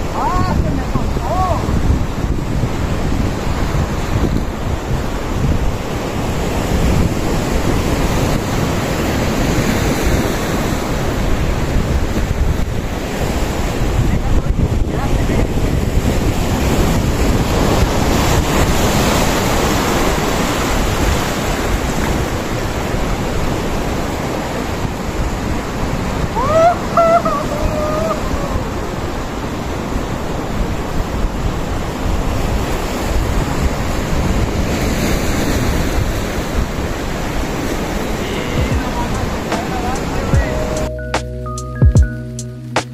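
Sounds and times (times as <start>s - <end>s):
wind buffeting microphone: 0.0s - 40.7s
surf on rocky shore: 0.0s - 40.9s.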